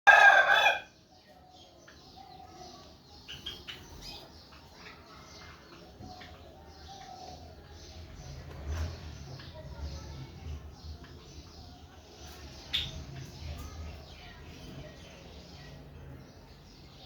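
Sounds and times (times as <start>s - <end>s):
sparrows chirping: 0.1s - 17.0s.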